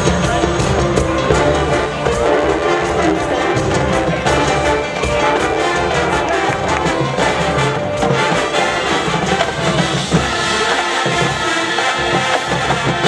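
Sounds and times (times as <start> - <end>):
marching band brass playing: 0.0 - 13.0.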